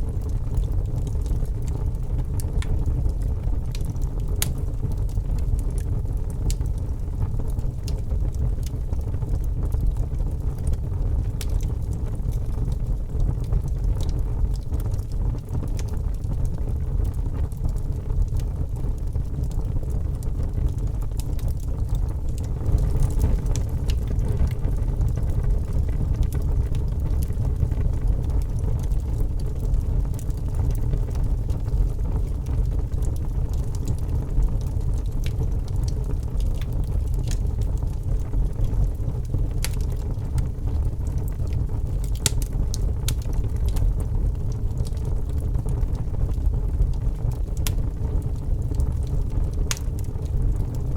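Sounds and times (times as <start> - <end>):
fire crackling and popping: 0.0 - 50.9
low rumble of flames: 0.0 - 50.9.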